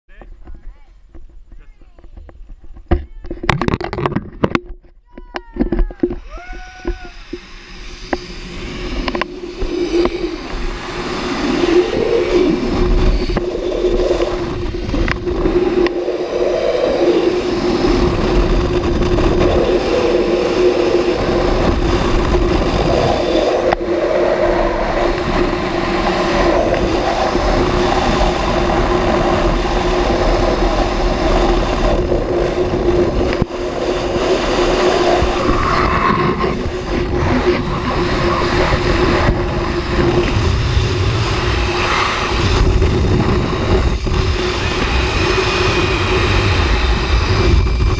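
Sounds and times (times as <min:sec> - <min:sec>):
wind rushing on microphone: 0:00.1 - 0:47.9
zipline pulleys humming on cable: 0:05.8 - 0:47.9.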